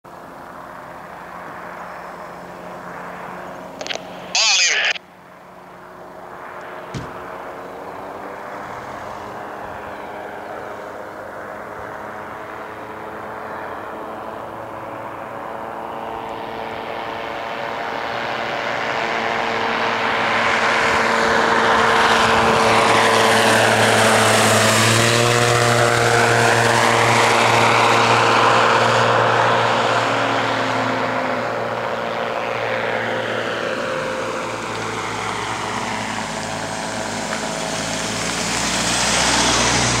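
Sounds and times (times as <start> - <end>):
microlight engine and propeller passing: 0.1 - 40.0.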